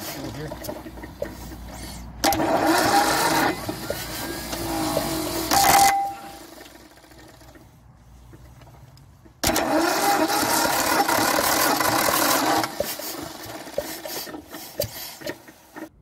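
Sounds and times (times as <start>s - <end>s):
engine knocks: 0.0s - 16.0s
starter motor cranking engine: 0.0s - 16.0s.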